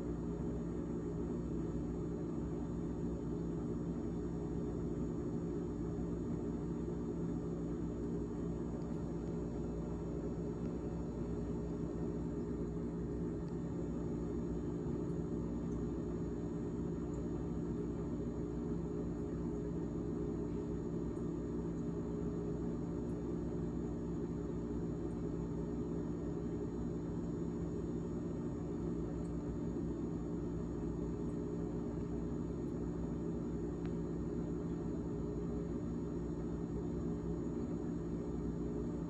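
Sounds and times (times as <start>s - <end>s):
refrigerator fan humming: 0.0s - 39.0s.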